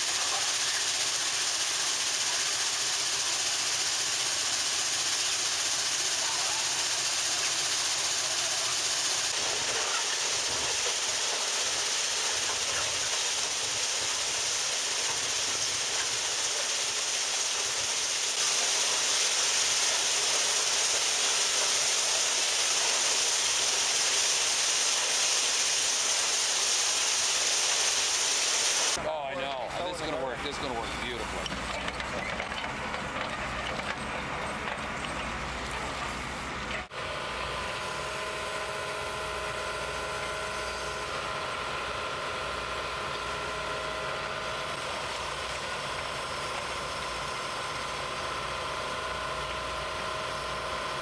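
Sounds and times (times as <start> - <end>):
ballast cleaning machine hissing: 0.0 - 29.1, 36.2 - 51.0.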